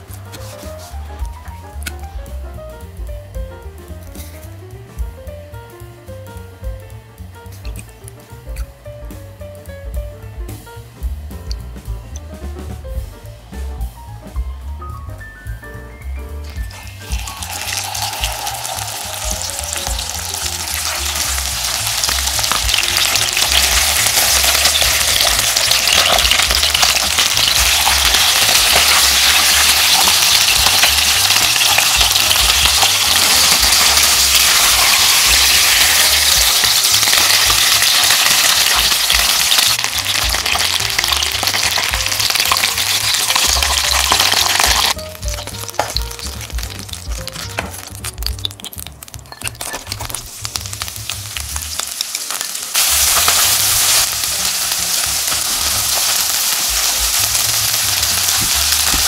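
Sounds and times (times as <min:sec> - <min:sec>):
fish sizzling in hot oil: 0:00.0 - 0:05.0, 0:16.4 - 0:59.0.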